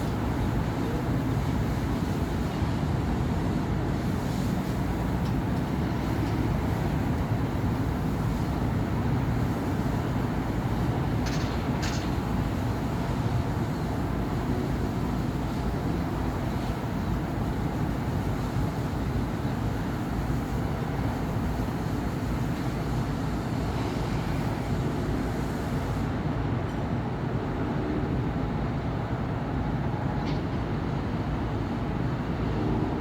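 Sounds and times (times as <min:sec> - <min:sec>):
city traffic rumble: 0:00.0 - 0:33.0.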